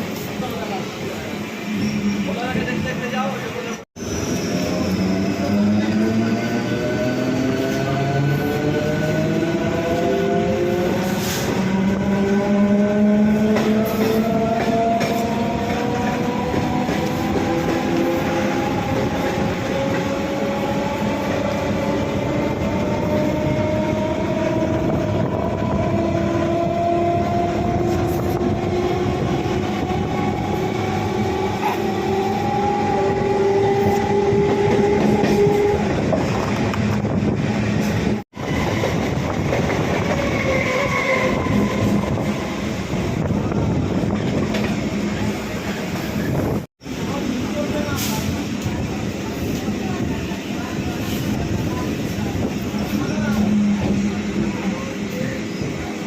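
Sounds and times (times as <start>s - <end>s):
electric train rumbling on track: 0.0s - 56.0s.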